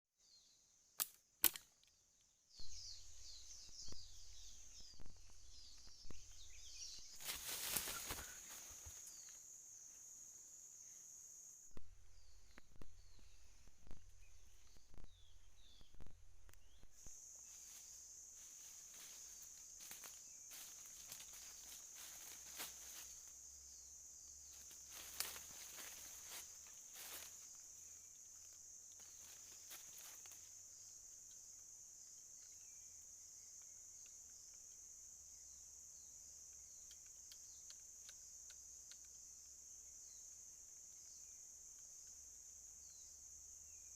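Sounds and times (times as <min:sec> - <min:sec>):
insects buzzing: 0:00.2 - 0:43.9.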